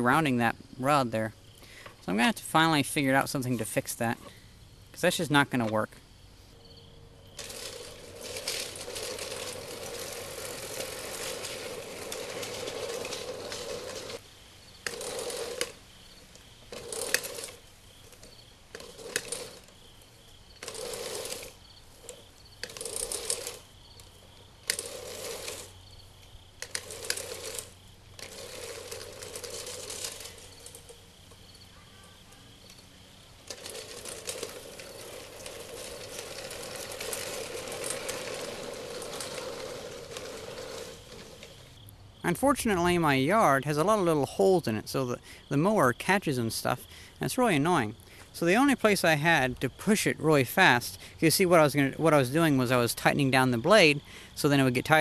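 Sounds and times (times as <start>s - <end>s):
reel mower blades whirring: 0.0s - 55.0s.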